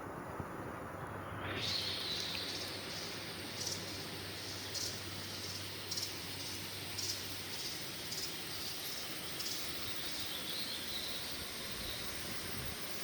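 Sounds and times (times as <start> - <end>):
insects droning: 0.0 - 13.0
high insect chirp: 1.2 - 13.0.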